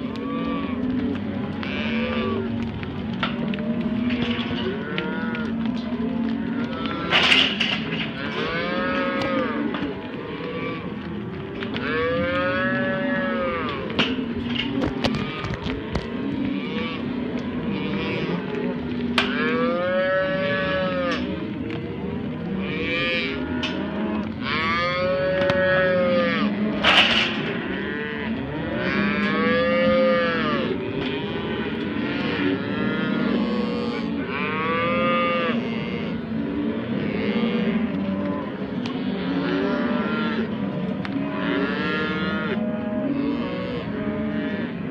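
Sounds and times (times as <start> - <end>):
cattle mooing: 0.0 - 44.9.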